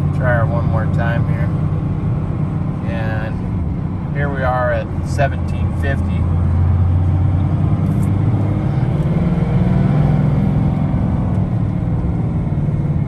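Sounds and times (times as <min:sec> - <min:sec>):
diesel engine pulling under throttle: 0:00.0 - 0:13.0.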